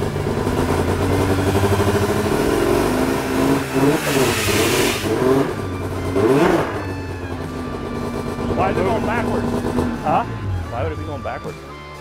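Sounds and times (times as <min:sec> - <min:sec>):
snowmobile engine idling and revving: 0:00.0 - 0:12.0.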